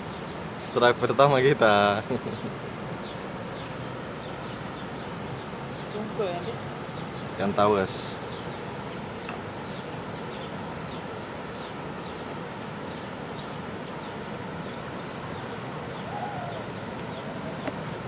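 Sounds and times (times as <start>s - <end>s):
outdoor hiss: 0.0s - 18.0s
small birds chirping: 0.0s - 18.0s.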